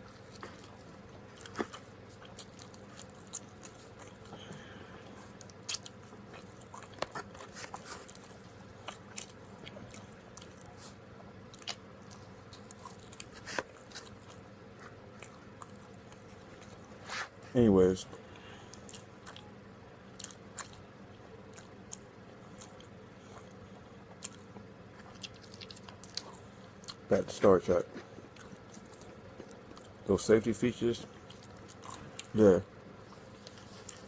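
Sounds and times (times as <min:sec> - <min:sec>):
chewing and biting pizza: 0:00.0 - 0:17.4, 0:18.2 - 0:34.0.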